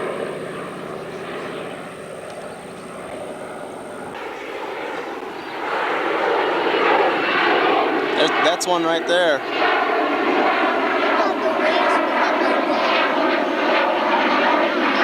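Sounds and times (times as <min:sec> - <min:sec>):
airplane engines droning overhead: 0:00.0 - 0:15.0.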